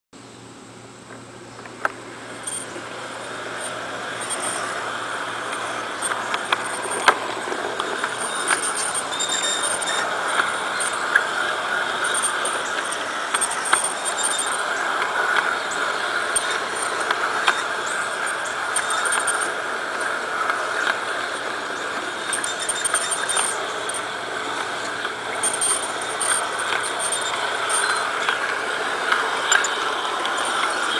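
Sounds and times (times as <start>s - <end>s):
model streetcar rolling whirr: 0.2s - 30.9s
wheels clicking on rails: 0.7s - 30.9s.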